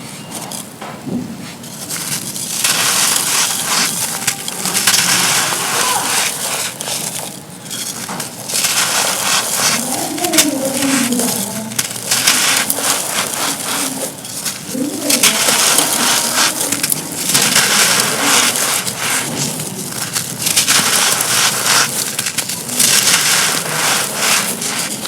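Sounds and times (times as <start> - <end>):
dry cones crackling crushed: 0.2 - 25.0.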